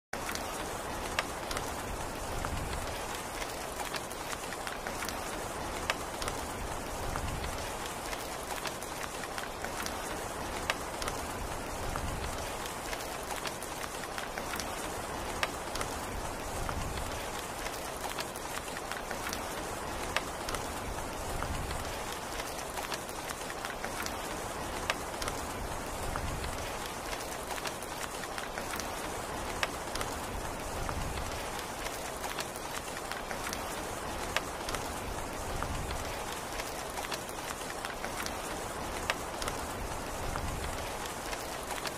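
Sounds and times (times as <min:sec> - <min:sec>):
steady rain: 0:00.1 - 0:41.9
raindrops ticking: 0:00.2 - 0:41.9.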